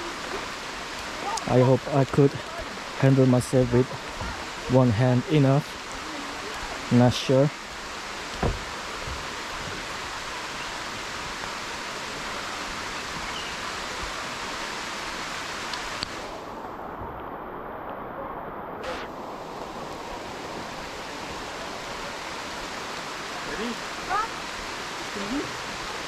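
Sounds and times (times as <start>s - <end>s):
waterfall rushing over rocks: 0.0s - 26.0s.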